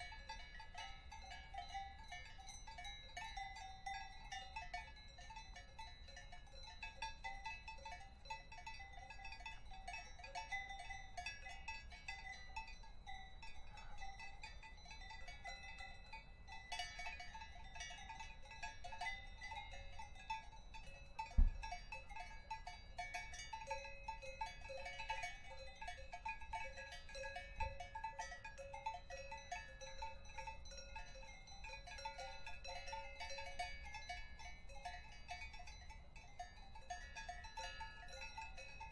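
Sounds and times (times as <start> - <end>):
cowbells clanking: 0.0 - 38.9.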